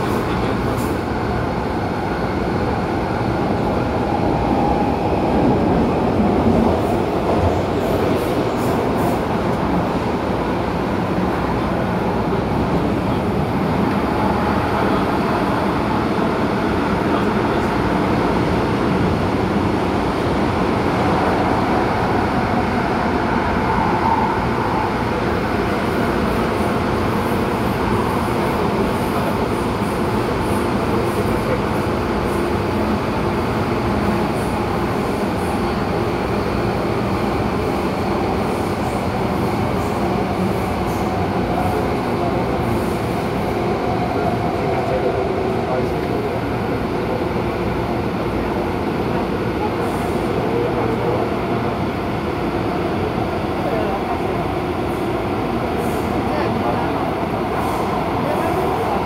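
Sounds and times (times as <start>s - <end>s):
train rumbling from inside carriage: 0.0s - 59.0s.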